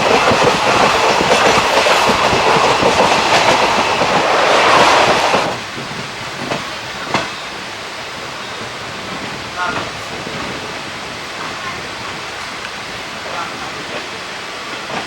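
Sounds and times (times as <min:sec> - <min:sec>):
clickety-clack over rail joints: 0:00.0 - 0:07.6, 0:08.3 - 0:15.0
train wheels on rails: 0:00.0 - 0:15.0.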